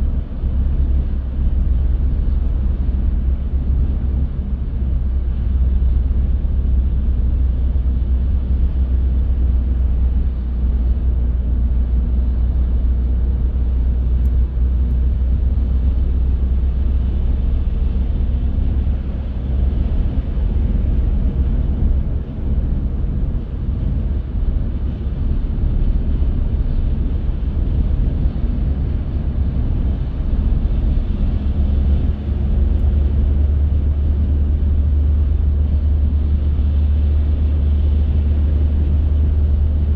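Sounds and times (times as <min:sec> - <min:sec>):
car driving with road rumble: 0:00.0 - 0:39.9.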